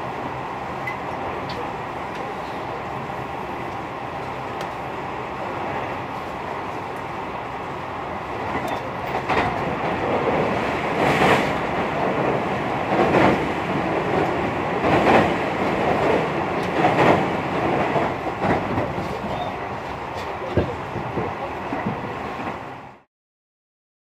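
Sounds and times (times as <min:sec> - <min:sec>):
train wheels rumbling on rail: 0:00.0 - 0:23.1.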